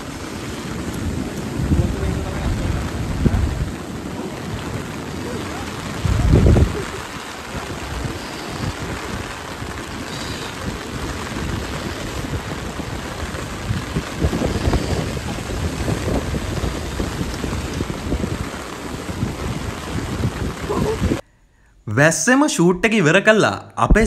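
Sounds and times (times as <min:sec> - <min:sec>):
steady rain falling: 0:00.0 - 0:21.2
low gusty rumbles: 0:00.0 - 0:21.8.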